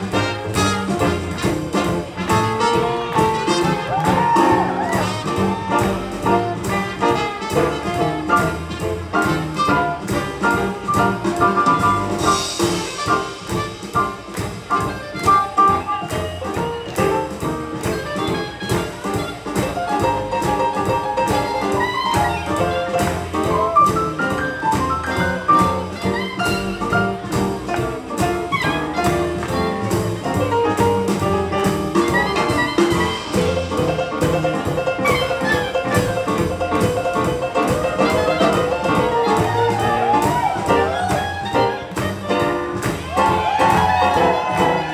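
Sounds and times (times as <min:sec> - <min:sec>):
swing jazz band playing: 0:00.0 - 0:44.9.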